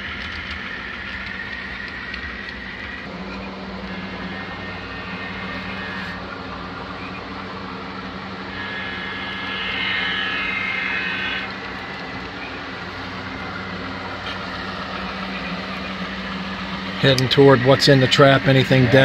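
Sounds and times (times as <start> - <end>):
high-pitched whine: 0.0 - 19.0
model train drone: 0.0 - 19.0.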